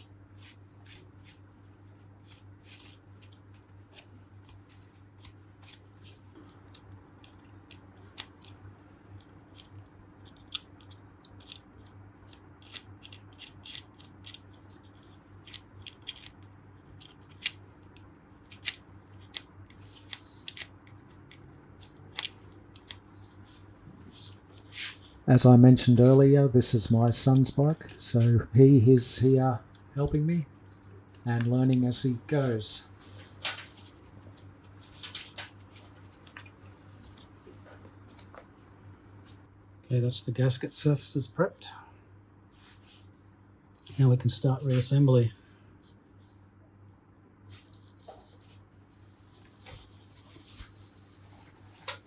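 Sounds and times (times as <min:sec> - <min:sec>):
faint steady low hum: 0:00.0 - 0:52.0.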